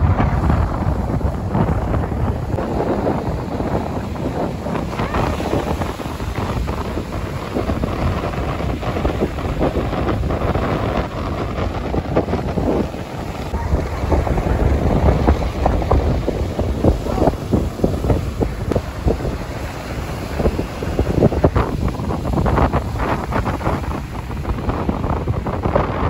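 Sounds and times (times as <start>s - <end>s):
waves breaking on beach: 0.0s - 26.0s
wind buffeting microphone: 0.0s - 26.0s.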